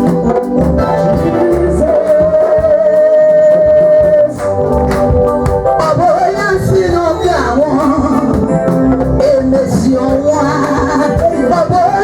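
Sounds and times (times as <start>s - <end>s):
live gospel band with singing: 0.0s - 12.0s.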